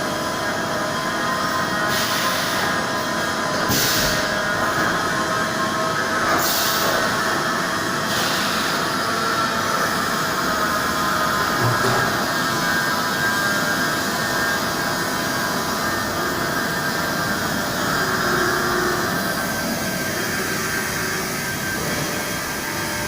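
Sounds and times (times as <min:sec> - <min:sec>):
milling machine whining: 0:00.0 - 0:23.0.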